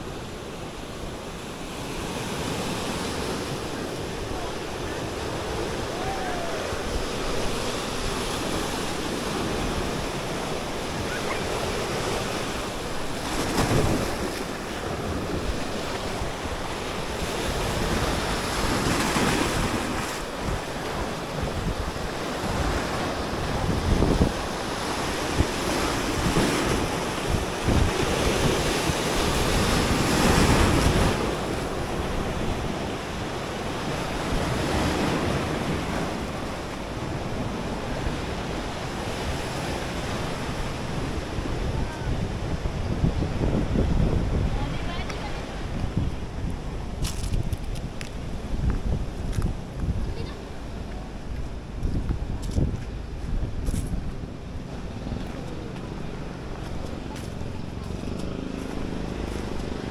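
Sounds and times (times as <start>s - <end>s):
sea waves breaking over rocks: 0.0s - 59.9s
wind rumbling on microphone: 0.0s - 59.9s.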